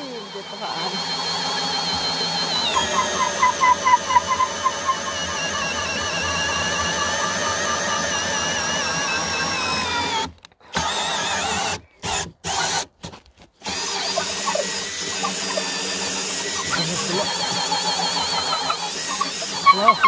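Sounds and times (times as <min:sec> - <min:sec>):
cordless drill motor whine: 0:00.0 - 0:12.9, 0:13.6 - 0:20.0.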